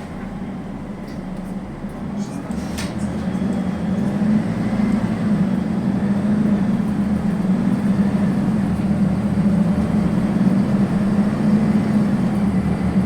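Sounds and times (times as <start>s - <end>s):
bus engine drone inside cabin: 0.0s - 13.0s.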